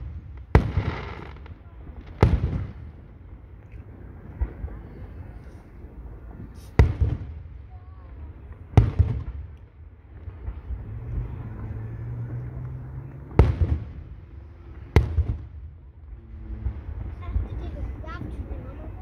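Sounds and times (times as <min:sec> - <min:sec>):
fireworks booming with echo: 0:00.0 - 0:12.4, 0:13.1 - 0:19.0.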